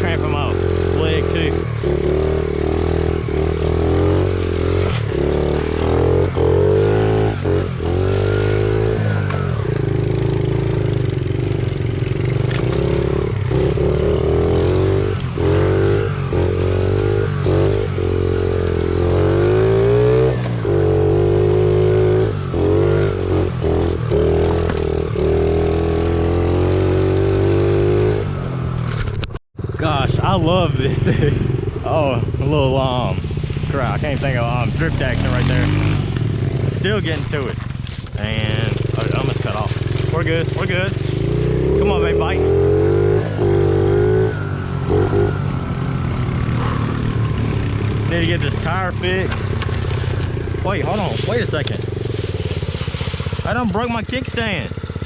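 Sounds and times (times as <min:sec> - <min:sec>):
small motorbike engine revving: 0:00.0 - 0:29.3, 0:30.2 - 0:55.0.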